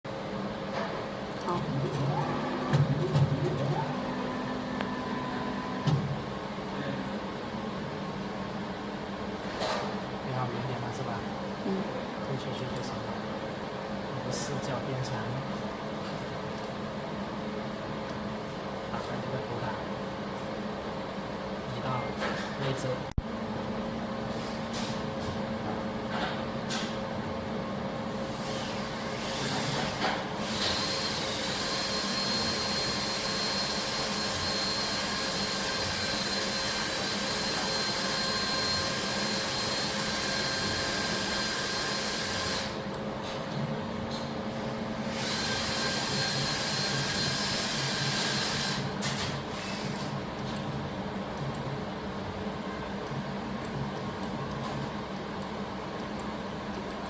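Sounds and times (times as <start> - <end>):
machine low hum: 0.1 - 57.0.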